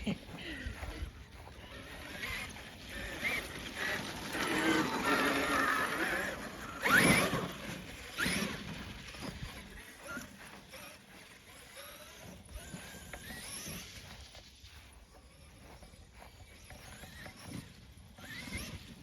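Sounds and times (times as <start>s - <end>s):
electric motor whining: 0.0s - 19.0s
tyre noise on rough ground: 0.0s - 19.0s.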